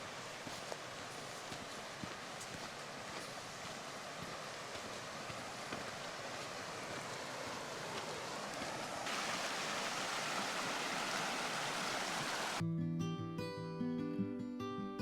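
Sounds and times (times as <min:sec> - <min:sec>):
river water rushing: 0:00.0 - 0:12.6.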